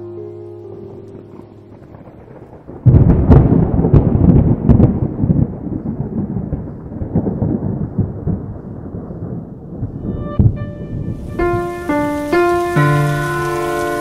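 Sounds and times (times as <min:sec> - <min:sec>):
rolling thunder rumble: 0:00.7 - 0:14.0
thunder cracks: 0:01.0 - 0:14.0.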